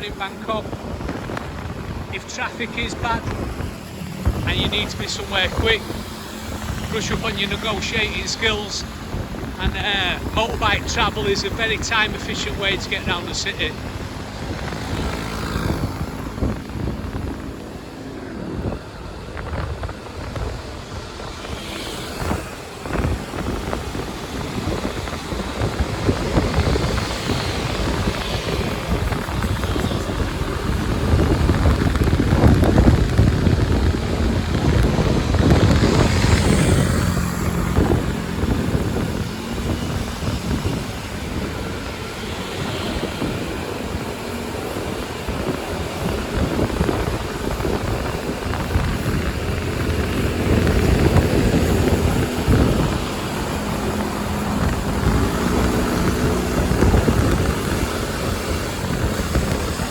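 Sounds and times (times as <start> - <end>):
wind buffeting microphone: 0.0 - 59.9
motorbike engine running: 0.1 - 59.9.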